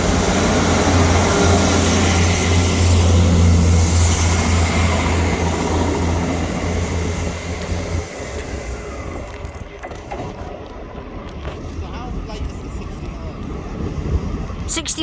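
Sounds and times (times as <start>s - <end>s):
train running by: 0.0s - 15.0s.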